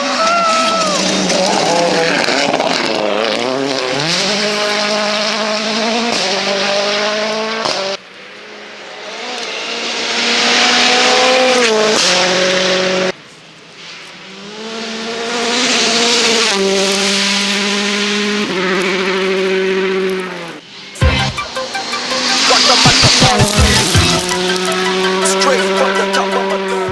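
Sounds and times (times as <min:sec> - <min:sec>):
rally car engines revving: 0:00.0 - 0:26.9
tyre and road noise: 0:00.0 - 0:26.9.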